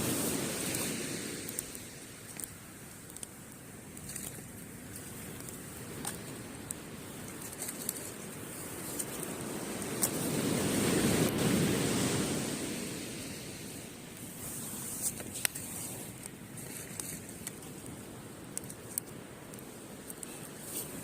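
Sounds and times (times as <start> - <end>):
ocean wave washing up beach: 0.0 - 18.6
campfire crackling: 0.0 - 21.0.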